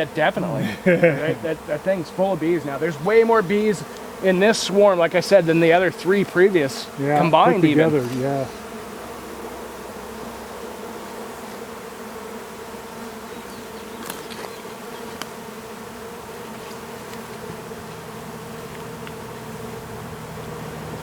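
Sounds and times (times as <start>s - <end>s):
bee swarm buzzing: 0.0s - 21.0s.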